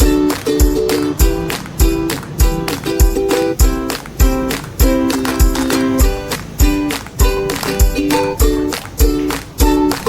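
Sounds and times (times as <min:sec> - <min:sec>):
kick drum beat: 0:00.0 - 0:10.0
plucked string chords: 0:00.0 - 0:10.0.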